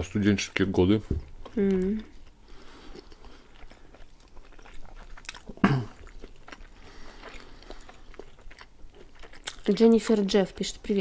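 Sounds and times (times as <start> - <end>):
chewing and biting pastry: 0.4 - 10.3.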